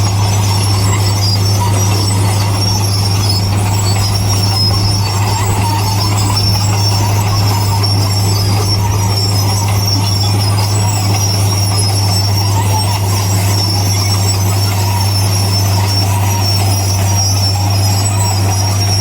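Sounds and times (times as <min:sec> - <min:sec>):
diesel engine drone: 0:00.0 - 0:19.0
metallic squeal of crawler tracks: 0:00.0 - 0:19.0.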